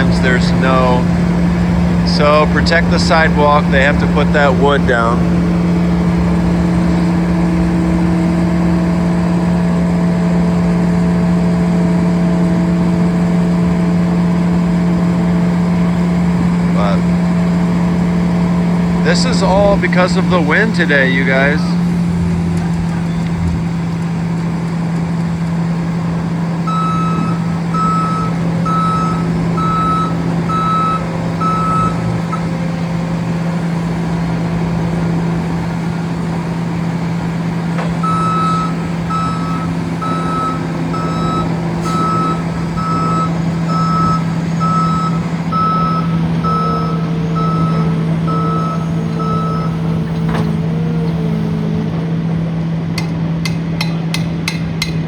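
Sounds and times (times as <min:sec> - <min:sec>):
backup alarm beeping: 0:00.0 - 0:23.5, 0:25.4 - 0:33.9, 0:37.6 - 0:50.7
engine humming: 0:00.0 - 0:55.0.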